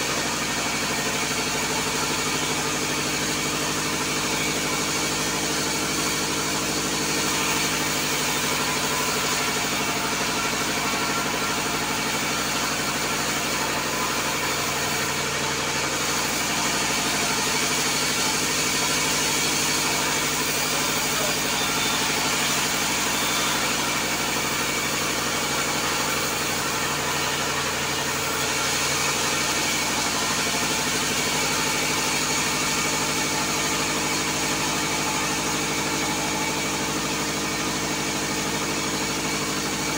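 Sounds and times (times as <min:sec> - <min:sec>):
bandsaw blade sawing timber: 0:00.0 - 0:39.9
saw drive droning: 0:00.0 - 0:39.9.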